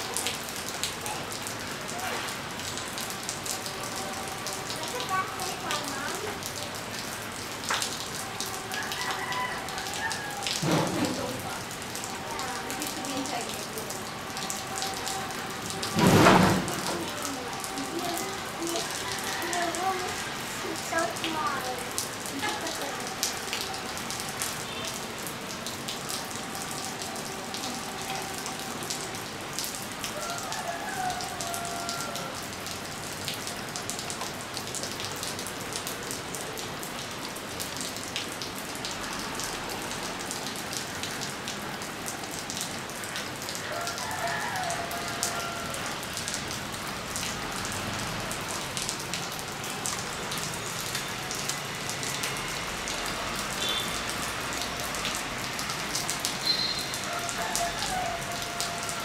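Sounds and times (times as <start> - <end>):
rain on concrete and puddles: 0.0 - 59.0.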